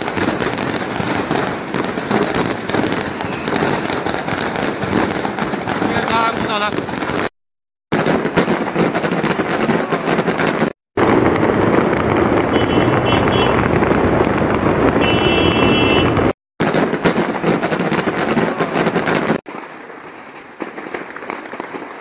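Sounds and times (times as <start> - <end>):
firecrackers crackling: 0.0 - 7.3, 7.9 - 22.0.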